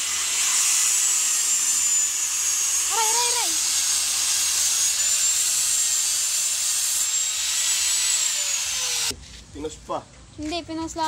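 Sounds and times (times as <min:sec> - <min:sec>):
angle grinder cutting steel: 0:00.0 - 0:09.1.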